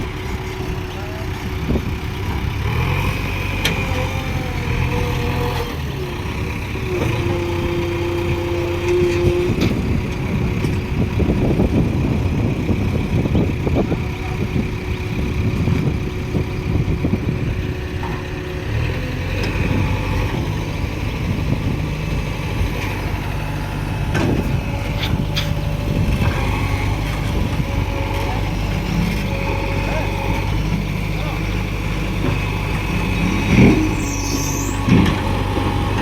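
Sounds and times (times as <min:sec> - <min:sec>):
heavy diesel engine under load: 0:00.0 - 0:36.0.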